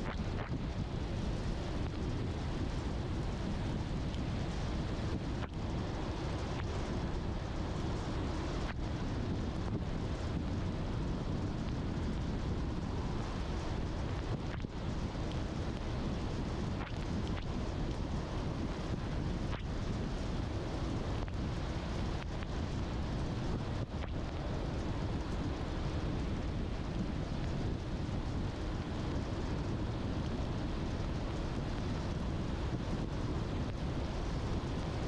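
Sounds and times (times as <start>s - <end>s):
rain hiss: 0.0s - 35.0s.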